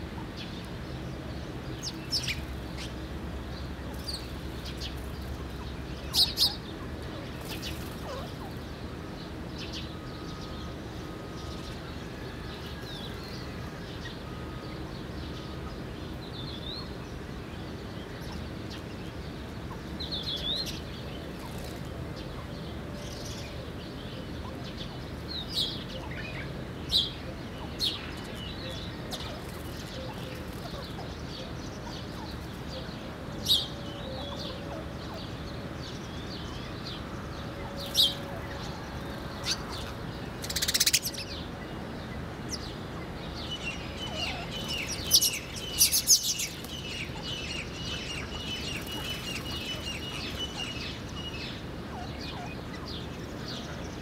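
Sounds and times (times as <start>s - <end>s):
low background noise: 0.0s - 54.0s
sparrows chirping: 0.0s - 54.0s.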